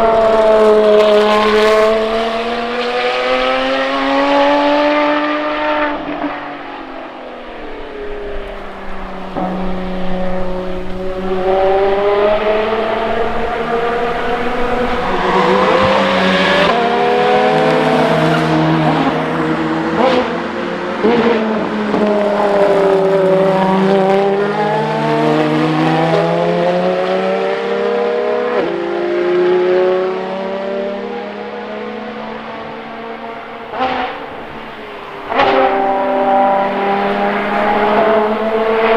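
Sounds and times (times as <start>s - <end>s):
race car engines at full throttle: 0.0s - 38.9s.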